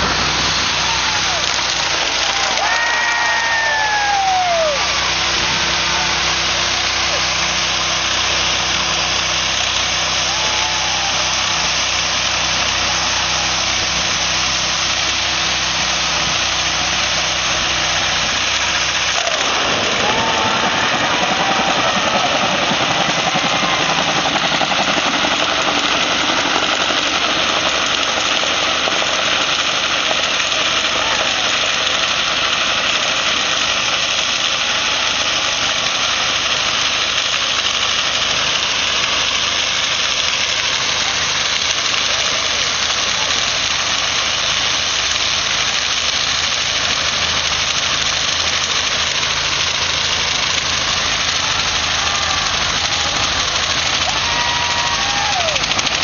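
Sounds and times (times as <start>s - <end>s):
car engine at high revs: 0.0s - 56.0s
tyres spinning on pavement: 0.0s - 56.0s.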